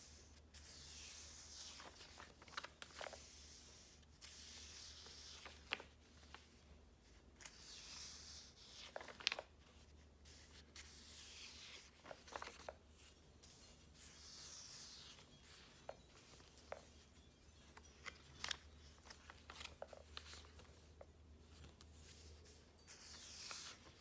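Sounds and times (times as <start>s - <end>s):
paper pages being turned: 0.5s - 24.0s.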